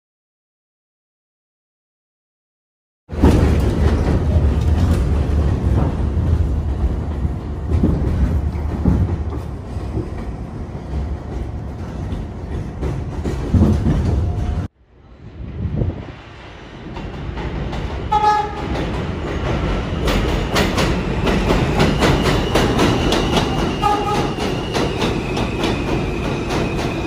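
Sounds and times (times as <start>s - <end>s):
clacks over rail joints: 3.1s - 14.7s, 16.9s - 27.0s
train wheels rumbling on track: 3.1s - 27.0s.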